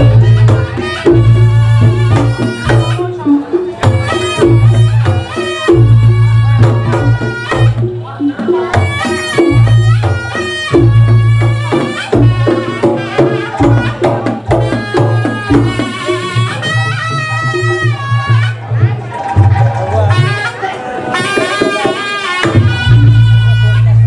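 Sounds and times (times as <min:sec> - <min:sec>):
hand drum strokes: 0:00.0 - 0:20.4, 0:21.0 - 0:24.0.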